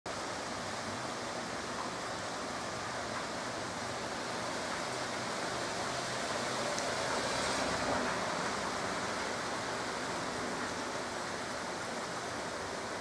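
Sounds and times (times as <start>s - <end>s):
heavy rain hiss: 0.1s - 13.0s.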